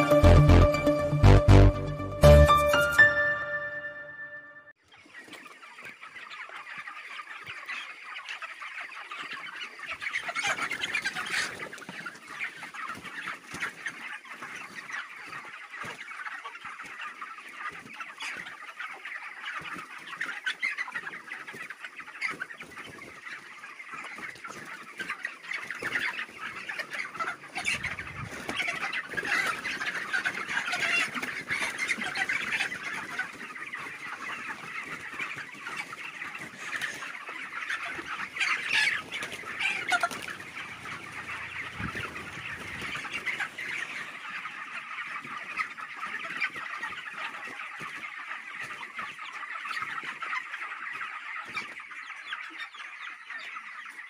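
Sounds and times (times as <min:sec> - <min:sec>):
flock of chickens clucking: 0:00.0 - 0:54.0.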